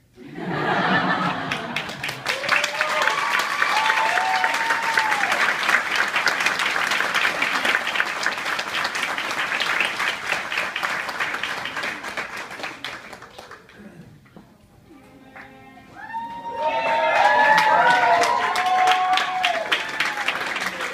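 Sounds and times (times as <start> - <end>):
people applauding: 0.7 - 14.0, 15.4 - 20.9.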